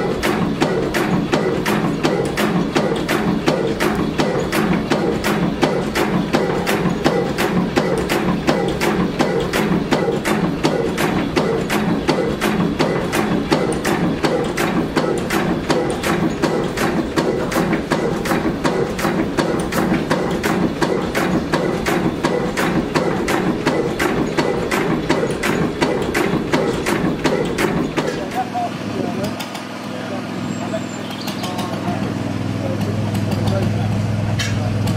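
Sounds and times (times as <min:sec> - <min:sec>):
engine running hum: 0:00.0 - 0:34.9
stationary engine clicking: 0:00.0 - 0:34.9.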